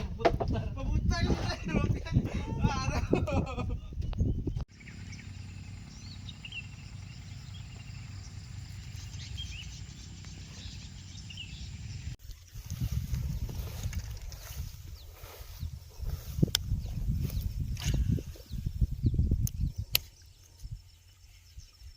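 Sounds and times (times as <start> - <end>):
small birds chirping: 2.4 - 21.9.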